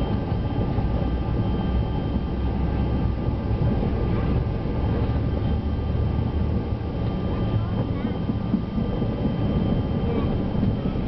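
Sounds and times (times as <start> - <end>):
jet engine rumble: 0.0 - 11.0
thin engine whine: 0.0 - 11.0.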